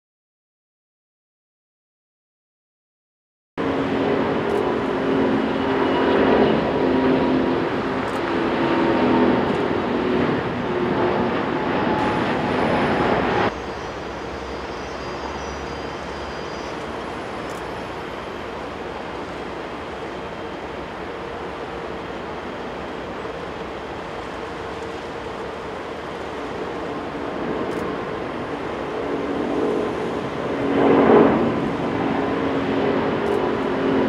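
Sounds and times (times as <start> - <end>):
jet airliner taking off: 3.6 - 34.0.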